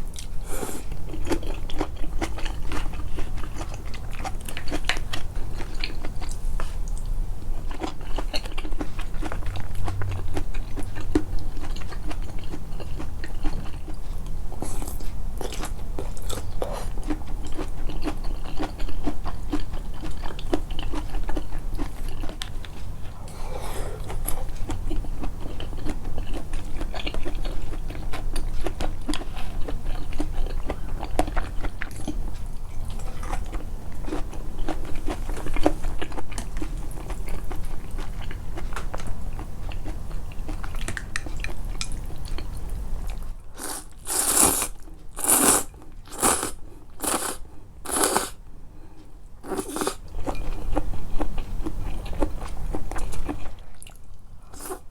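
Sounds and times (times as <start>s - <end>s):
food crunching: 0.0s - 48.4s, 49.4s - 54.8s
chewing and biting food: 0.1s - 48.4s, 49.4s - 54.9s.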